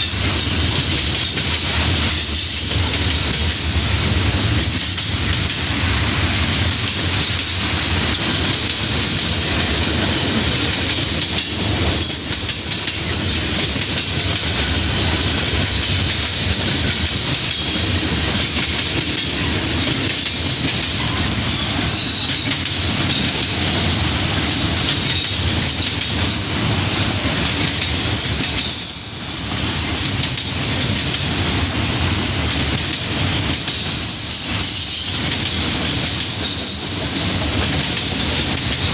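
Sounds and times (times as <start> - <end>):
steel wheels rolling on rail: 0.0 - 38.9.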